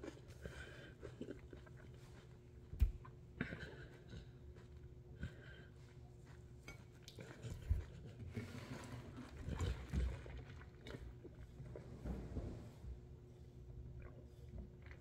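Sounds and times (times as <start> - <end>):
chewing noodles: 0.0 - 11.9, 13.6 - 15.0.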